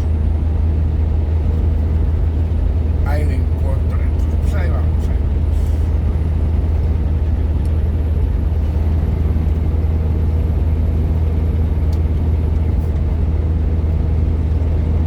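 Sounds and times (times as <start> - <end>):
engine and road drone in cabin: 0.0 - 15.0.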